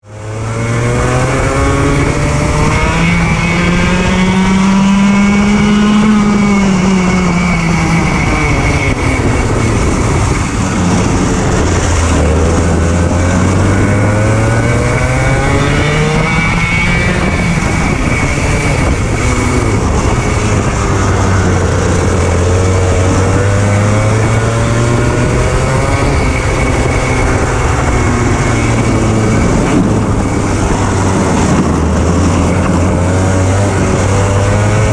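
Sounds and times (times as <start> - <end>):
kart engine revving: 0.0 - 34.9.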